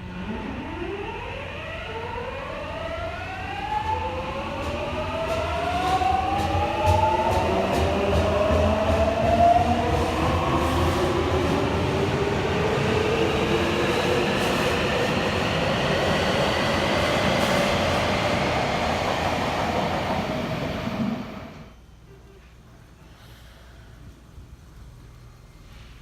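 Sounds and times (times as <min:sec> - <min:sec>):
subway train rumbling: 0:00.0 - 0:26.0.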